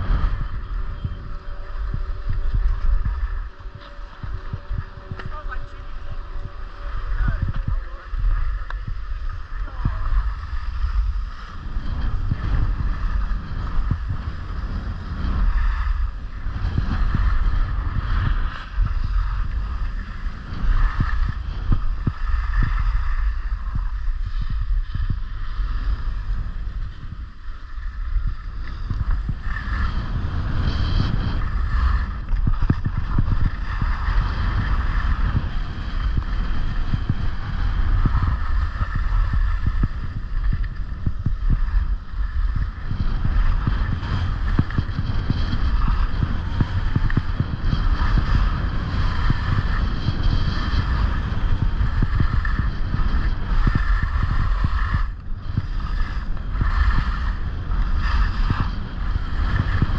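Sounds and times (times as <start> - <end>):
skis sliding on snow: 0.0 - 59.9
wind on microphone: 0.0 - 59.9.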